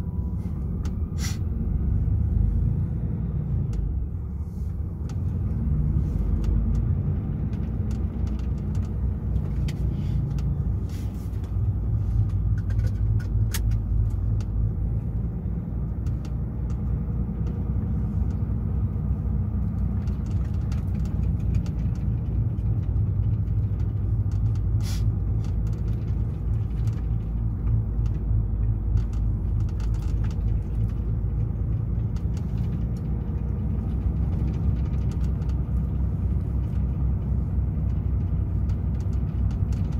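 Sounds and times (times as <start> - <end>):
road noise: 0.0 - 39.9
truck diesel engine rumble: 0.0 - 39.9.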